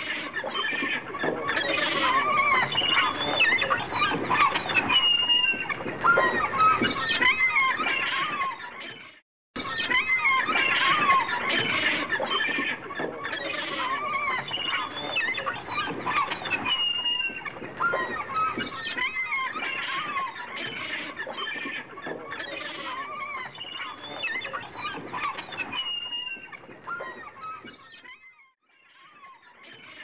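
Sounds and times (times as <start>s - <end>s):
gulls calling: 0.0s - 30.0s.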